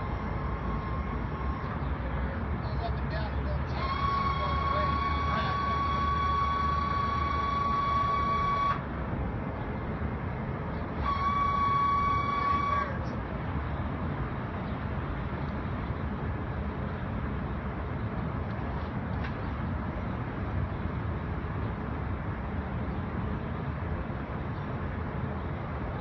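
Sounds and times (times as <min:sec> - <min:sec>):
low background noise: 0:00.0 - 0:26.0.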